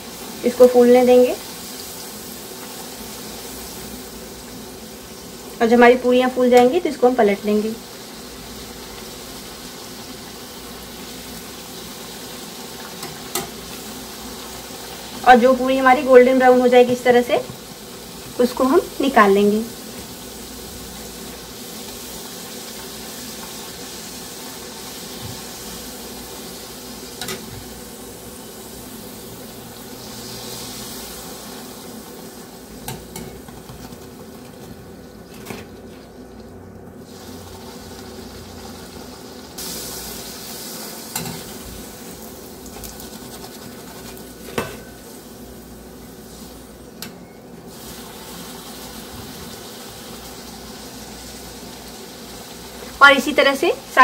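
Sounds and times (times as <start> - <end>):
hot oil sizzling: 0.0 - 54.0.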